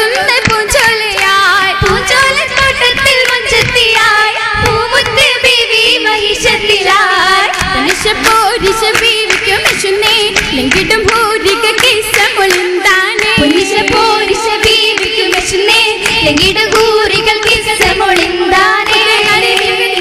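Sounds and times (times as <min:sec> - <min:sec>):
group of voices singing: 0:00.0 - 0:20.0
rhythmic hand claps: 0:00.0 - 0:20.0.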